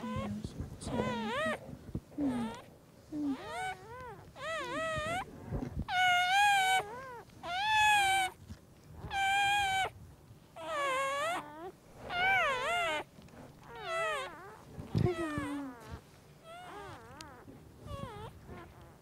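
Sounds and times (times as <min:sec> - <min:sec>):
puppy crying: 0:00.0 - 0:01.6, 0:02.2 - 0:05.3, 0:05.9 - 0:08.4, 0:09.0 - 0:10.0, 0:10.6 - 0:19.0.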